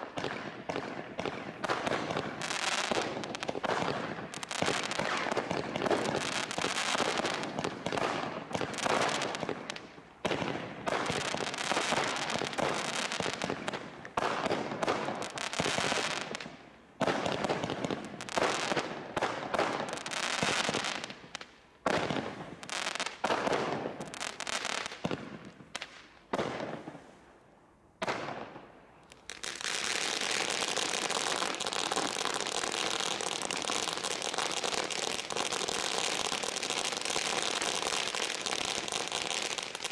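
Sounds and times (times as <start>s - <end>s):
fireworks shots and bursts: 0.0s - 27.0s, 28.0s - 39.9s.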